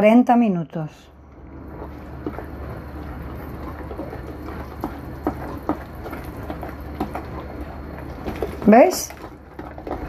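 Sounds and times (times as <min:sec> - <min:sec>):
spatula stirring wet batter: 0:01.6 - 0:10.0.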